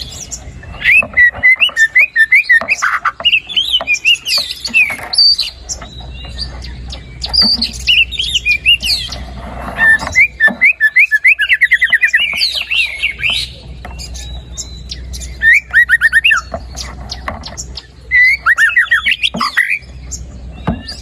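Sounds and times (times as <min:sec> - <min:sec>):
songbird whistling rapid notes: 0:00.0 - 0:09.2, 0:09.8 - 0:21.0.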